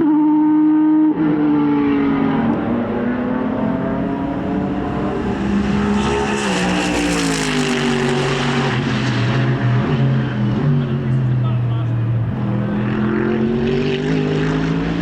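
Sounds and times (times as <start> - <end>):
racing car passing by: 1.1 - 15.0.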